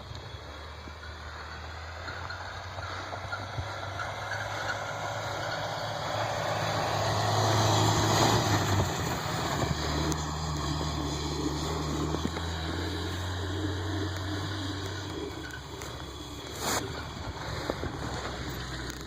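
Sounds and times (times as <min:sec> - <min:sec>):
pickup truck engine running: 0:00.0 - 0:19.0.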